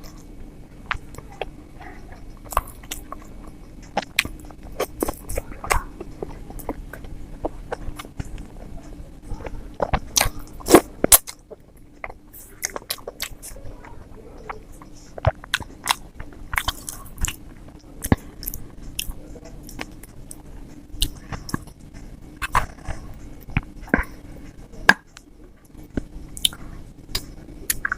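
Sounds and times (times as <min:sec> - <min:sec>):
wet chewing mouth sounds: 0:00.9 - 0:13.6, 0:14.4 - 0:27.9.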